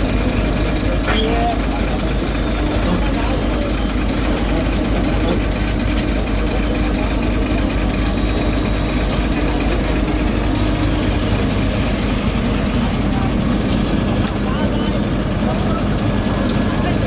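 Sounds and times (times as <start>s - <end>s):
construction machinery engine hum: 0.0s - 17.0s.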